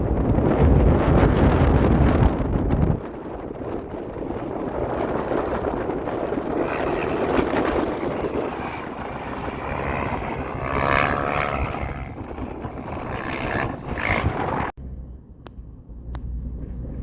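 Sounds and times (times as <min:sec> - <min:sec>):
wind buffeting microphone: 0:00.0 - 0:17.0
motorcycle engine running: 0:03.0 - 0:17.0.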